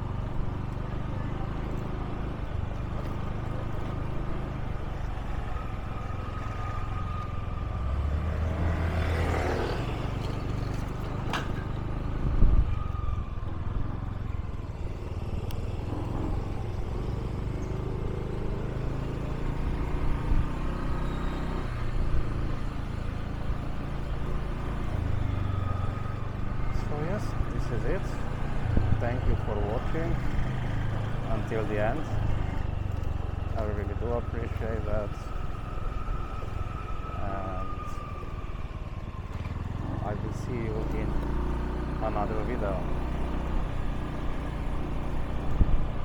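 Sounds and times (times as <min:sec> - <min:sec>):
motorbike engine rumbling: 0:00.0 - 0:46.0.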